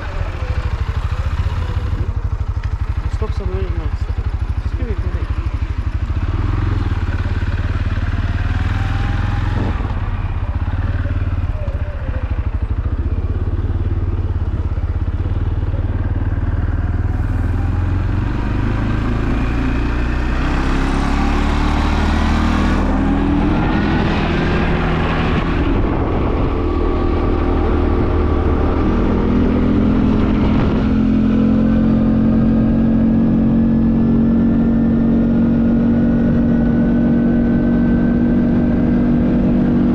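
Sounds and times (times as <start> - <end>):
quad bike engine accelerating: 0.0 - 39.9.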